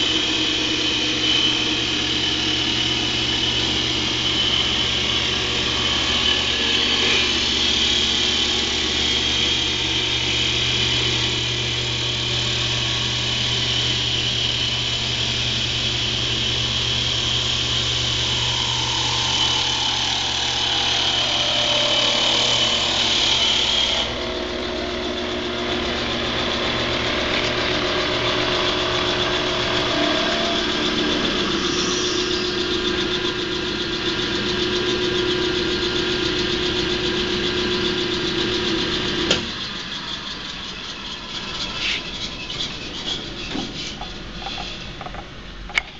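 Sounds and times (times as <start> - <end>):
lathe high whine: 0.0 - 45.2
wood lathe drone: 0.0 - 45.2.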